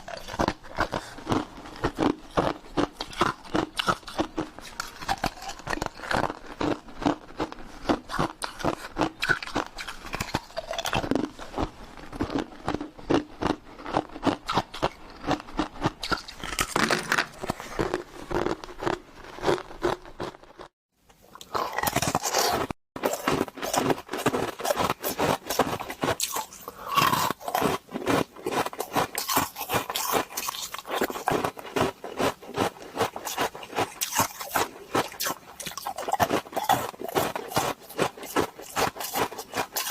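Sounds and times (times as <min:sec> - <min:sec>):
ice cubes being crunched: 0:00.0 - 0:20.4, 0:21.4 - 0:39.9.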